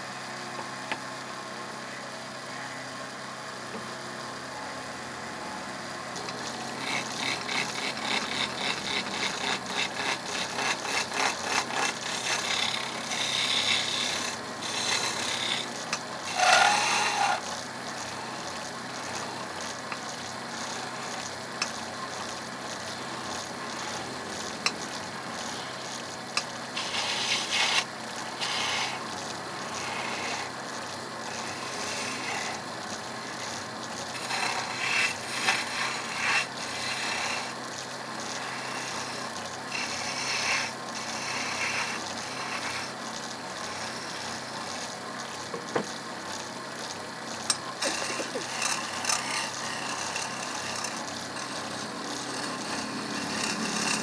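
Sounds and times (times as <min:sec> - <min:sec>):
chisel rasping on turning wood: 0:06.2 - 0:21.8, 0:22.8 - 0:45.9, 0:47.4 - 0:54.0.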